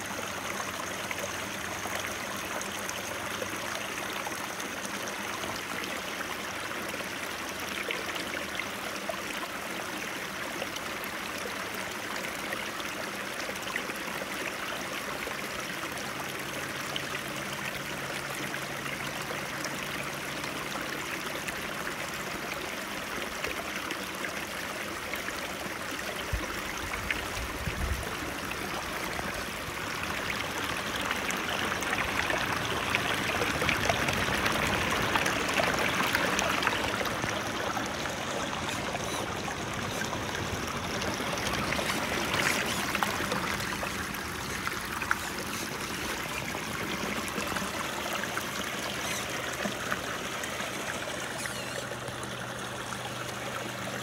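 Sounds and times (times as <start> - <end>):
creek babbling over rocks: 0.0 - 54.0.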